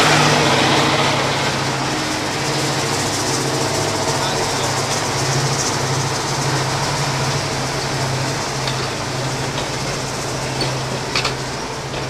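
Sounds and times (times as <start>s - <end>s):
diesel locomotive engine drone: 0.0s - 12.0s
train coaches rolling on rails: 0.0s - 12.0s.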